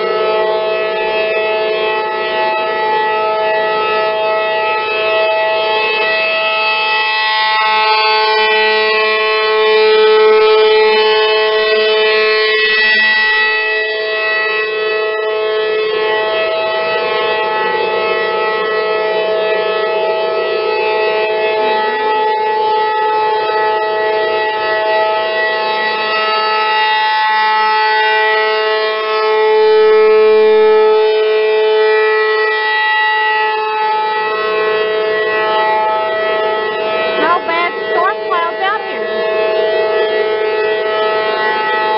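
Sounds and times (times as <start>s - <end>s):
tornado warning siren: 0.0s - 41.9s.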